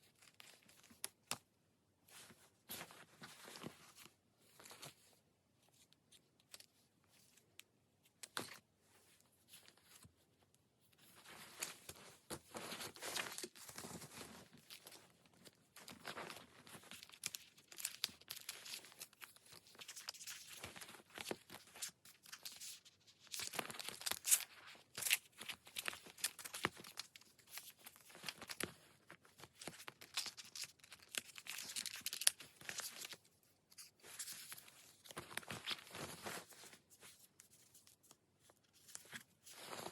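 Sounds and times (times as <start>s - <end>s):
paper and stickers rustling: 2.0s - 39.9s.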